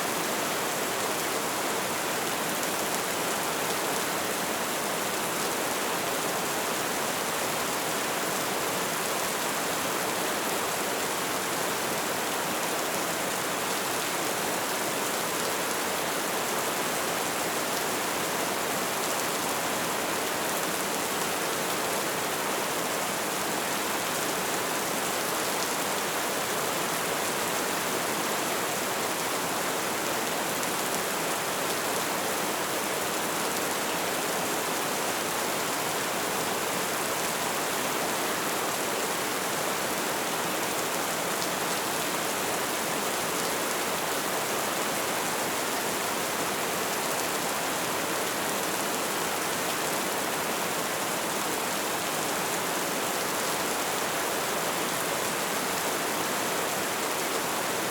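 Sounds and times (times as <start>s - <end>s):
light rain falling: 0.0s - 57.9s.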